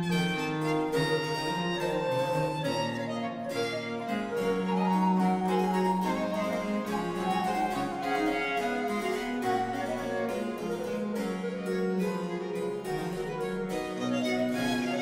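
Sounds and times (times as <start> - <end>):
baroque chamber ensemble: 0.0 - 15.0
harpsichord chords: 0.0 - 15.0.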